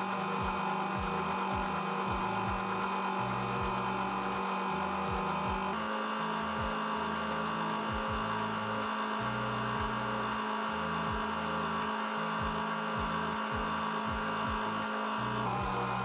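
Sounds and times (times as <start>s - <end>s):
cutting tool turning metal: 0.0s - 16.0s
metal lathe motor hum: 0.0s - 16.0s.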